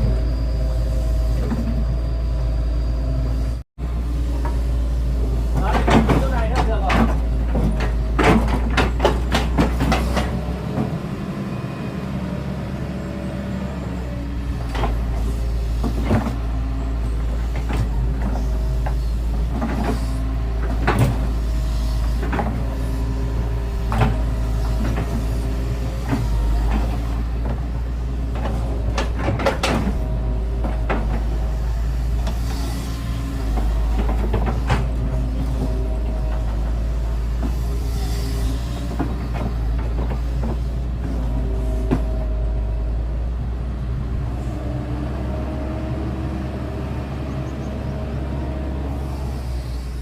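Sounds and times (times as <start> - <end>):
diesel engine rumbling: 0.0 - 50.0.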